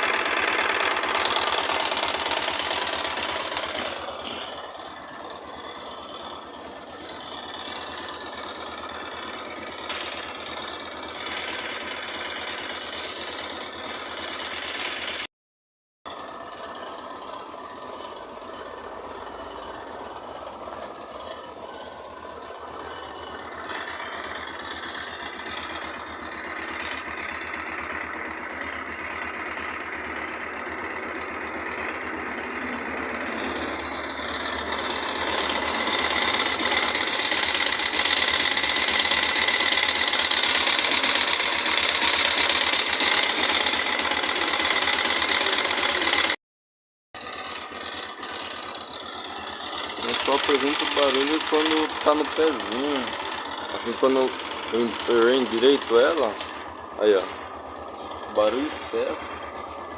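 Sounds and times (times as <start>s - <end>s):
motorcycle engine idling: 0.0s - 15.3s, 16.1s - 46.4s, 47.2s - 59.9s
noise from cylinder head: 0.0s - 15.3s, 16.2s - 46.4s, 47.2s - 59.9s.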